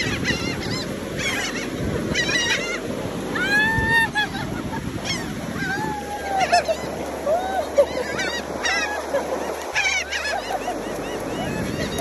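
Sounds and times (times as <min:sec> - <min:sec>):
seagulls squawking: 0:00.0 - 0:12.0.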